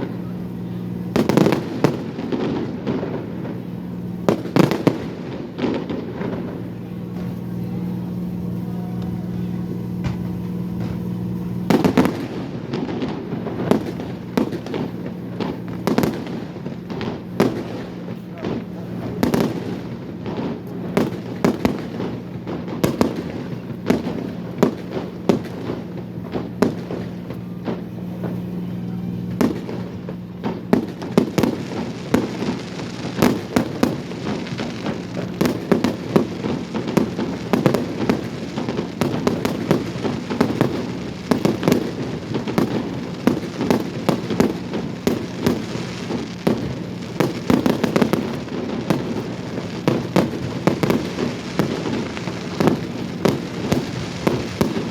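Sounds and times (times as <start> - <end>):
fireworks bangs and crackles: 0.0 - 54.9
steady low hum: 0.0 - 54.9.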